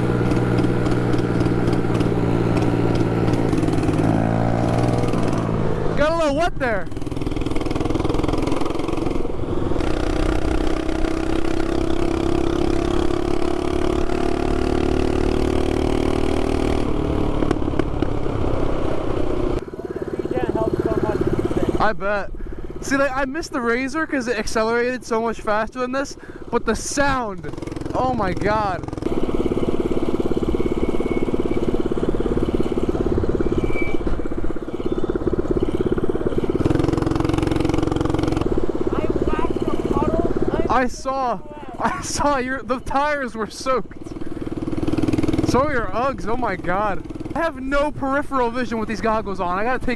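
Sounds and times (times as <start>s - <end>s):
mini bike engine running hard: 0.0s - 22.9s, 26.2s - 49.9s.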